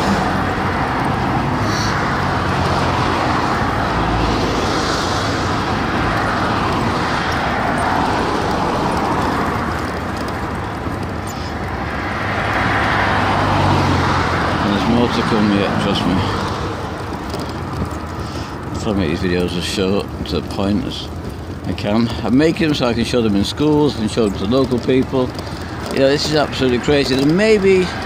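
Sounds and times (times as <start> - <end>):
cars passing on a highway: 0.0 - 28.0.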